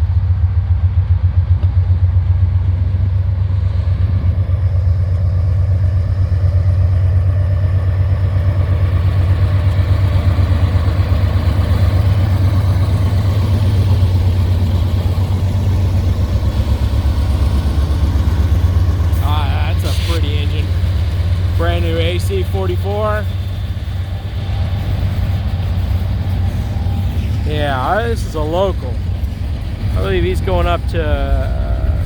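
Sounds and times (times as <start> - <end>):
locomotive engine throbbing drone: 0.0 - 32.0.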